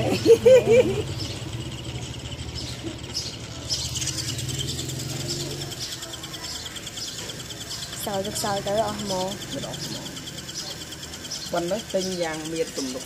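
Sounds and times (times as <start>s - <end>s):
fast high chirping: 0.0s - 13.0s
steady low hum: 0.0s - 13.0s.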